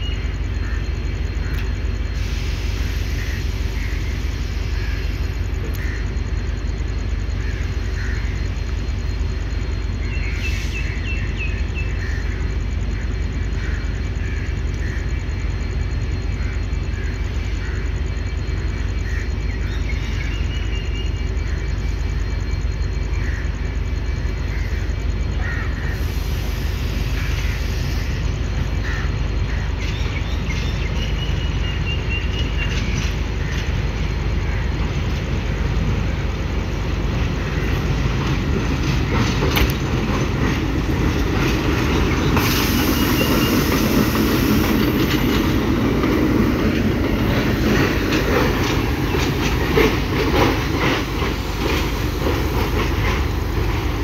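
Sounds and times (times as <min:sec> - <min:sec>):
railway yard rumble: 0:00.0 - 0:54.0.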